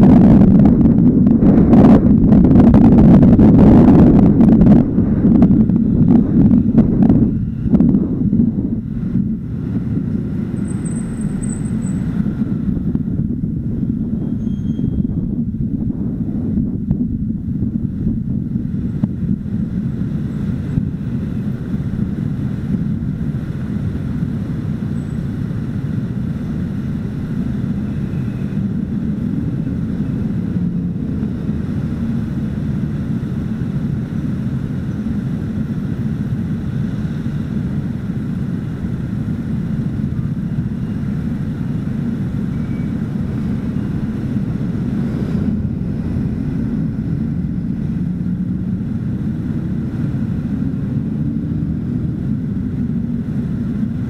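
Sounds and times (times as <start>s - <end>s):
city traffic: 0.0s - 54.0s.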